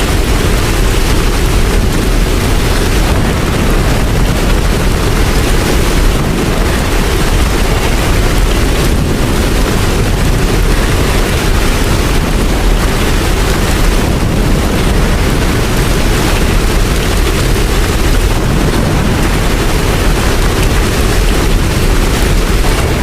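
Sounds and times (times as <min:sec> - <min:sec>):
deep low rumble: 0:00.0 - 0:23.0
heavy rain: 0:00.0 - 0:23.0.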